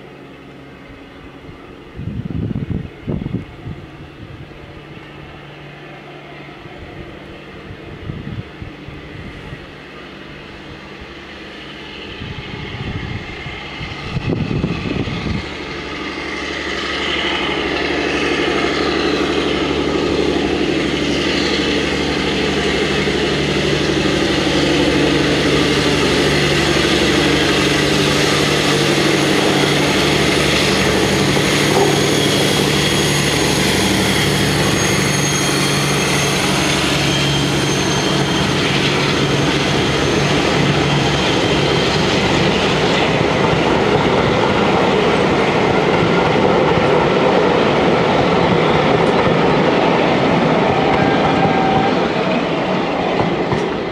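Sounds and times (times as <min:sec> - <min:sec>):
diesel locomotive engine drone: 0:00.0 - 0:53.9.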